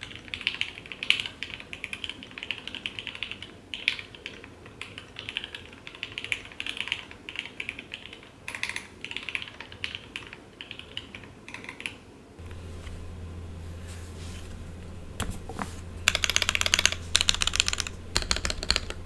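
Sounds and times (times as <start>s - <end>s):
mechanical keyboard typing: 0.4s - 12.0s, 15.0s - 19.0s.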